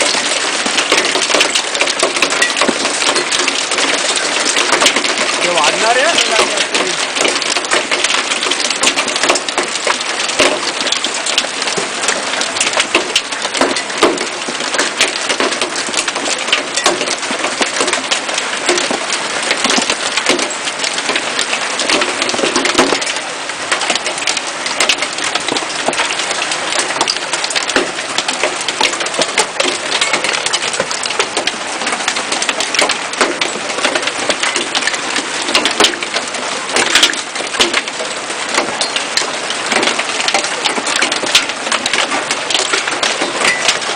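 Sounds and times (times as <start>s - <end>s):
hailstones clattering on hard surfaces: 0.0s - 43.9s
heavy rain: 0.0s - 43.9s.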